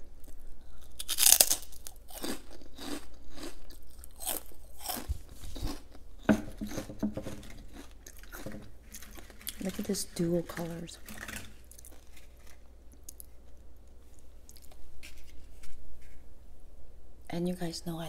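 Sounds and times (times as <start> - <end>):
crackers crunching while chewed: 0.1 - 15.8.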